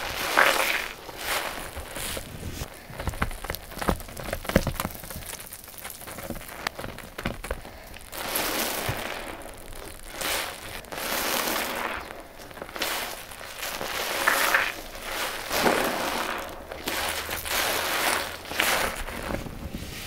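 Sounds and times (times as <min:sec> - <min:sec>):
wet squishing swells: 0:00.0 - 0:03.8, 0:04.9 - 0:20.0
wet sponges squelching: 0:00.0 - 0:20.0.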